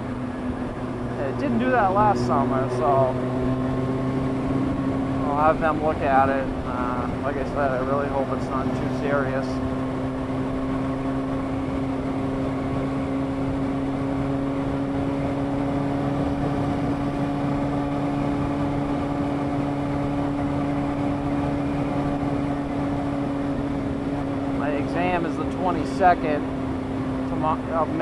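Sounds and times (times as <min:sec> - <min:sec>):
motorcycle engine running: 0:00.0 - 0:28.0
road noise: 0:00.0 - 0:28.0
wind: 0:00.0 - 0:28.0.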